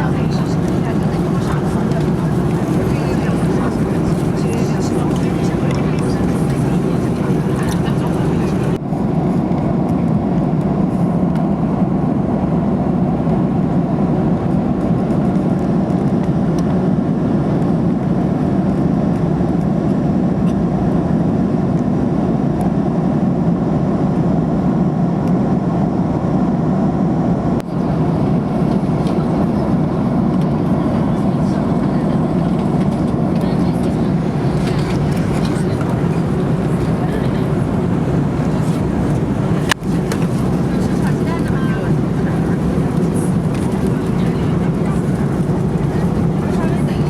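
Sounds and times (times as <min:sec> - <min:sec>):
airliner cabin engine rumble: 0:00.0 - 0:47.0.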